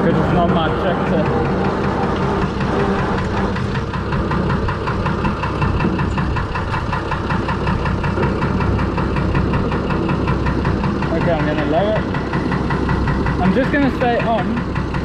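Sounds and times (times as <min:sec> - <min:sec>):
diesel tractor engine knocking: 0:00.0 - 0:15.0.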